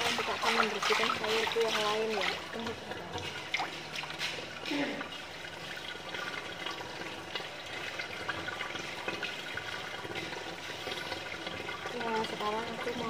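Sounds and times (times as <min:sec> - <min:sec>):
hose water running into tub: 0:00.0 - 0:13.0.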